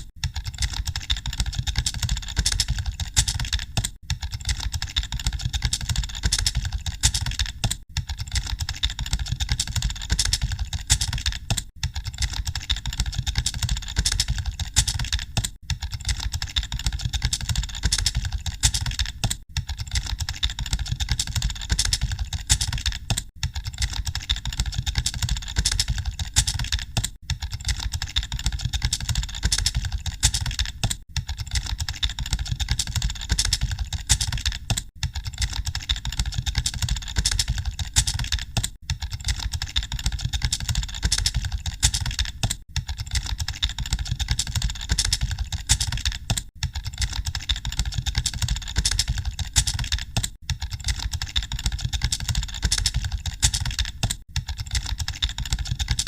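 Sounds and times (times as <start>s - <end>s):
keyboards typing: 0.0s - 56.0s.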